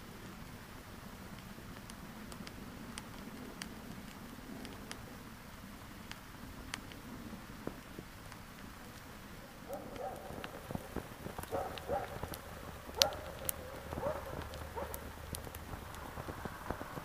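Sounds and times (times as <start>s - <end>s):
small fire crackling and popping: 0.0s - 17.0s.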